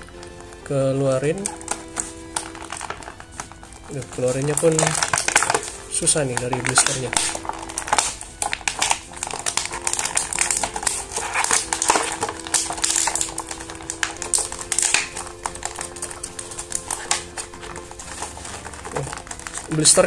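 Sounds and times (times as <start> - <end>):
plastic blister crinkling: 0.0 - 20.0.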